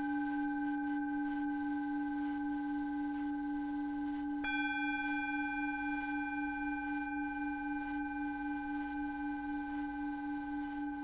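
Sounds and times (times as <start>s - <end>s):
electronic drone of pure tones: 0.0s - 11.0s.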